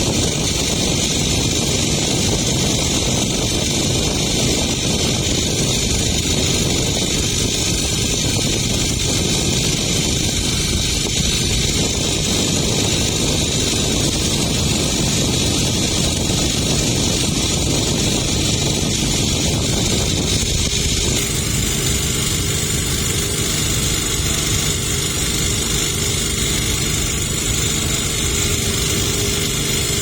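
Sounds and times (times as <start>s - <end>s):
boat engine running: 0.0s - 30.0s
wind: 0.0s - 30.0s.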